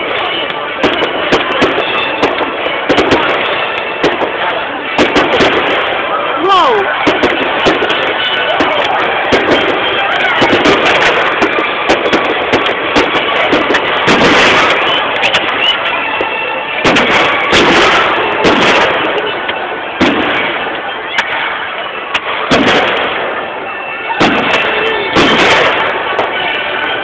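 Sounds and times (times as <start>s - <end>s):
fireworks bursting with bangs: 0.0s - 27.0s
fireworks crackling: 0.0s - 27.0s.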